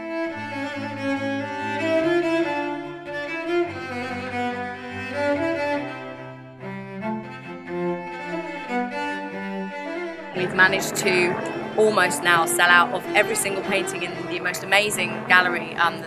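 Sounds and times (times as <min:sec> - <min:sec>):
bowed strings long notes: 0:00.0 - 0:16.0.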